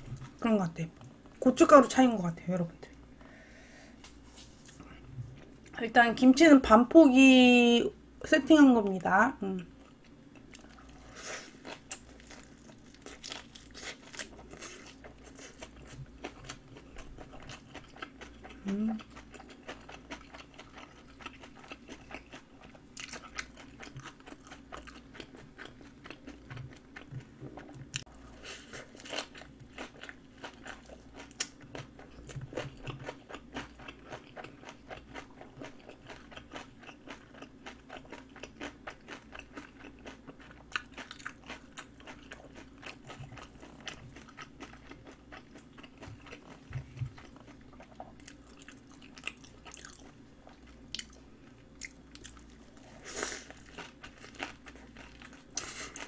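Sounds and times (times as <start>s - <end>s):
person chewing crunchy food: 9.7s - 56.0s.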